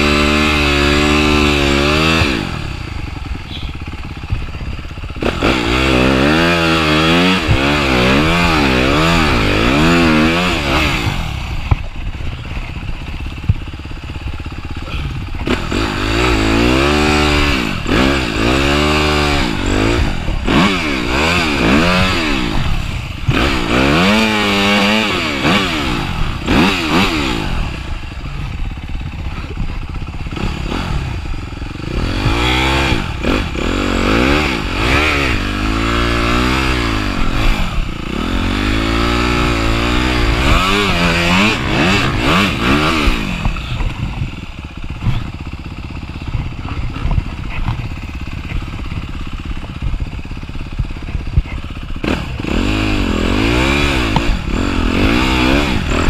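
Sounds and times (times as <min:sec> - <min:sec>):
dirt bike engine revving: 0:00.0 - 0:56.0
engine clatter: 0:00.0 - 0:56.0.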